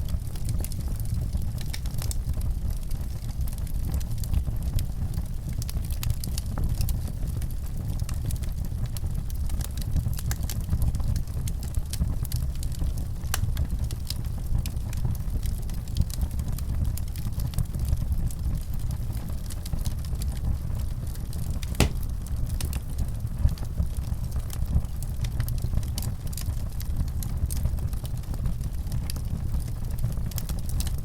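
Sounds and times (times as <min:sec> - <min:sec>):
fire low rumble: 0:00.0 - 0:31.0
wood fire crackling and popping: 0:00.0 - 0:31.0.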